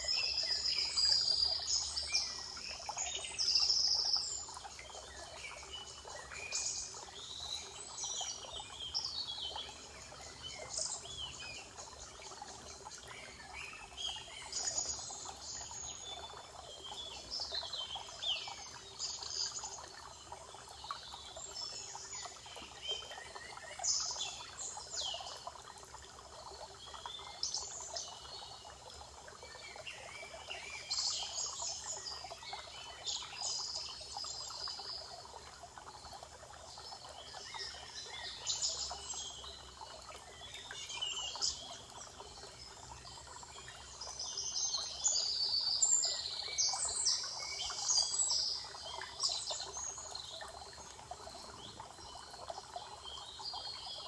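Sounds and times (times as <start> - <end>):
running water: 0.0 - 54.0
songbirds singing: 0.0 - 54.0.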